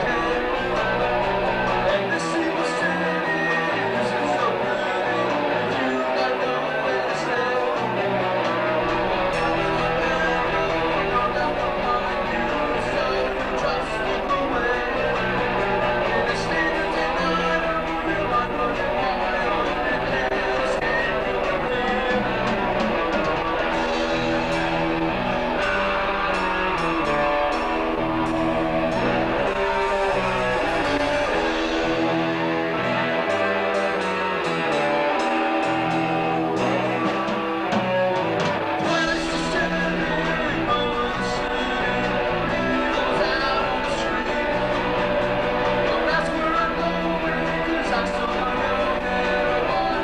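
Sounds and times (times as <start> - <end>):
electric guitar: 0.0 - 50.0
rock band playing live: 0.0 - 50.0.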